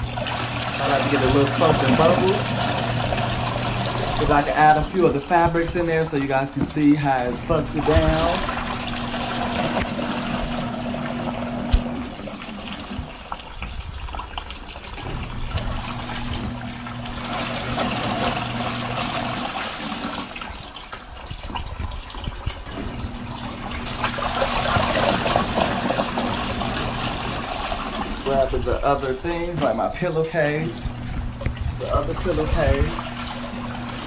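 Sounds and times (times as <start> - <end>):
washing machine churning water: 0.0 - 34.0
washing machine motor hum: 0.0 - 34.0.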